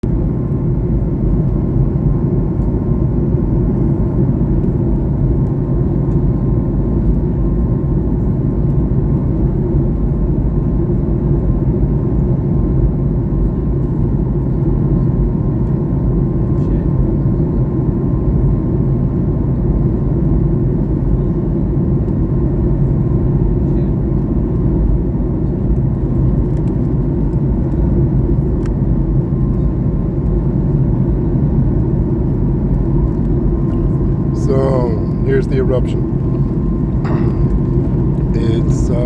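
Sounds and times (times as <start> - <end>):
aircraft engine drone and air rush: 0.0 - 39.0.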